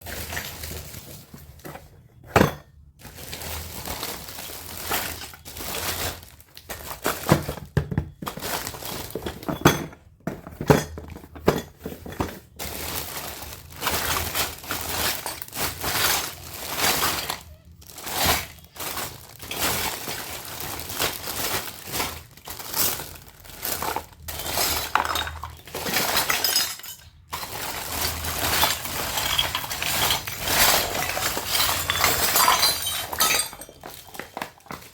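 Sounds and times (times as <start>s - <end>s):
plastic packaging crinkling: 2.9s - 9.4s, 12.0s - 34.9s.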